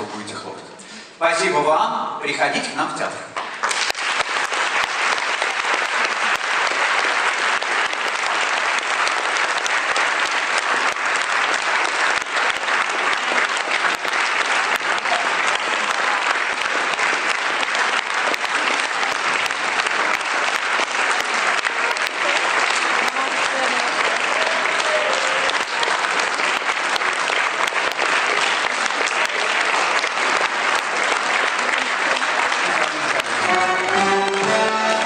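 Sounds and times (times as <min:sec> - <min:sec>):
audience applauding: 0:03.4 - 0:35.0.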